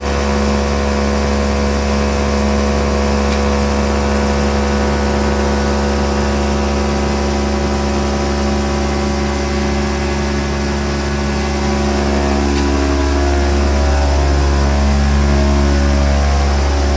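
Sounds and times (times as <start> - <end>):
engine running steadily: 0.0 - 16.9.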